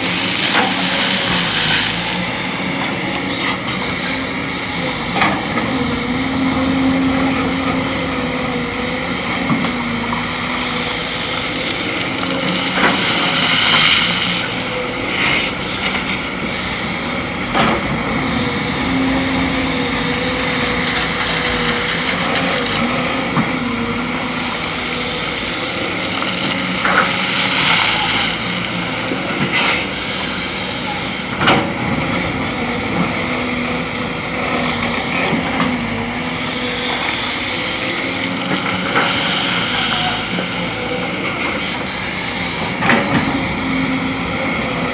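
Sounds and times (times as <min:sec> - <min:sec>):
excavator diesel engine running: 0:00.0 - 0:44.9
hydraulics hissing: 0:00.0 - 0:44.9.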